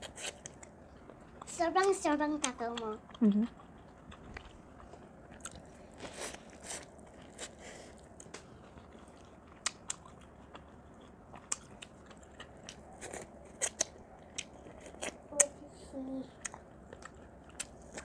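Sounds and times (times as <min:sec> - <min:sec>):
person chewing corn on the cob: 0:02.4 - 0:15.5, 0:16.3 - 0:18.0.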